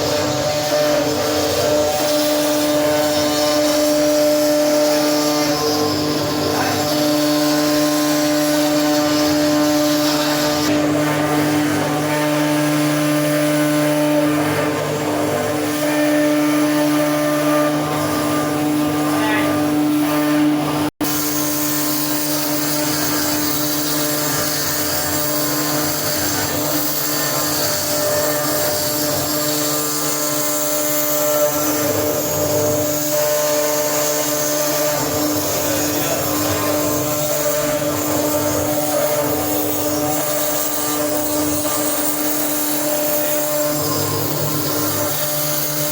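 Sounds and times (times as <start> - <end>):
router spindle whine and hum: 0.0 - 45.9.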